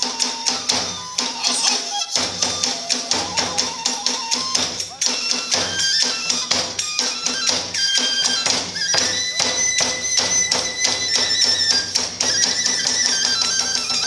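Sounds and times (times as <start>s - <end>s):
bamboo flute long high notes: 0.0s - 14.0s
drums in fast rhythm: 0.0s - 14.0s
hand cymbals clashing: 0.0s - 14.0s.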